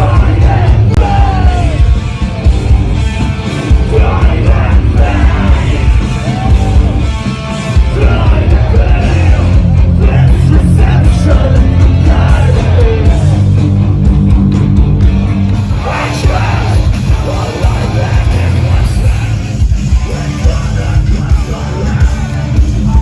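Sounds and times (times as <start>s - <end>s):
heavy rock band playing: 0.0s - 23.0s.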